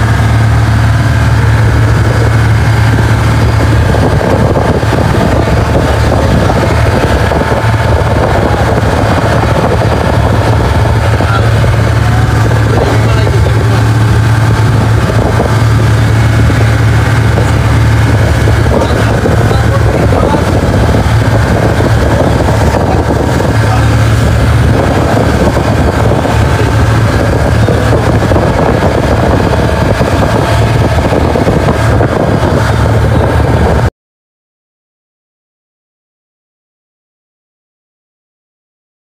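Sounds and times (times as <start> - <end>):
motorboat engine droning: 0.0 - 33.9
rush of wind and water: 0.0 - 33.9.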